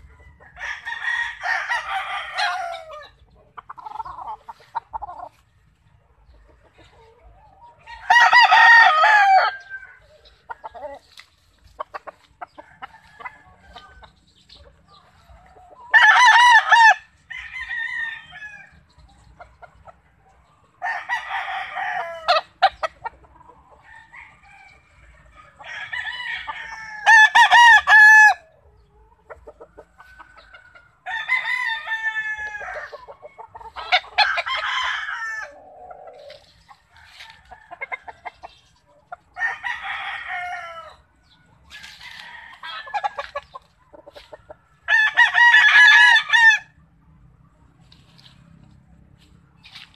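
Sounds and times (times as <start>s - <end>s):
roosters crowing: 0.0s - 47.2s.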